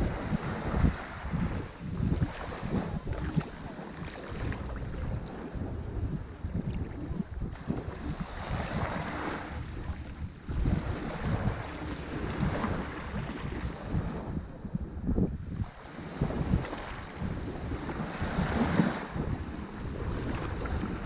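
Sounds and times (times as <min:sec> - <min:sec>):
ocean waves breaking: 0:00.0 - 0:21.0
wind buffeting microphone: 0:00.0 - 0:21.0.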